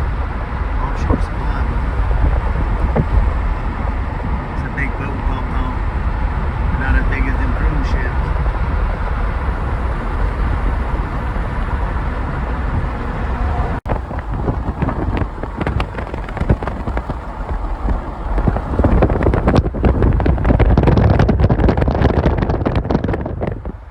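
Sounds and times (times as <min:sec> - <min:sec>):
vehicle road and engine rumble: 0:00.0 - 0:23.9
wind buffeting microphone: 0:00.0 - 0:23.9.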